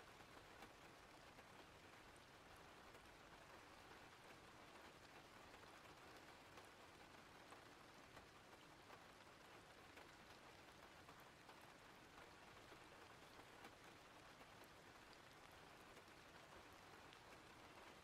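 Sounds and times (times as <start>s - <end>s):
raindrop ticks: 0.1s - 18.0s.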